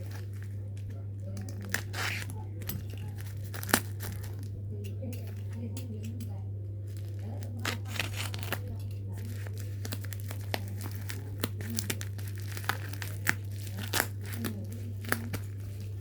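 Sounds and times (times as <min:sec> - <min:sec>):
packaging crinkling and tearing: 0:00.0 - 0:04.5, 0:06.9 - 0:16.0
steady low hum: 0:00.0 - 0:16.0.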